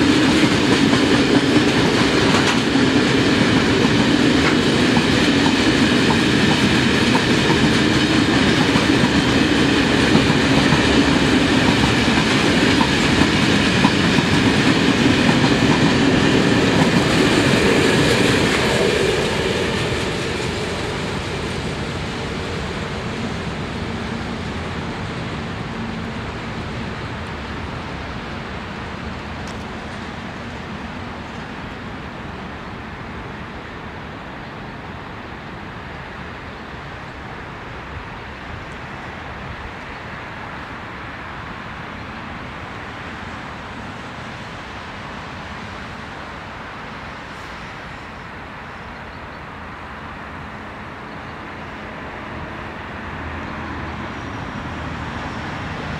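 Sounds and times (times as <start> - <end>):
train wheels rumbling on track: 0.0 - 55.9.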